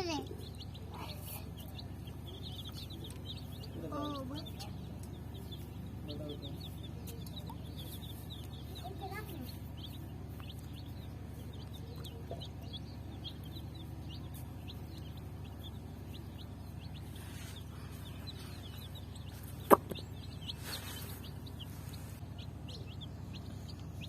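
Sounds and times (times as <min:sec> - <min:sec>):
baby chicks peeping: 0:00.0 - 0:24.0
steady low hum: 0:00.0 - 0:24.0.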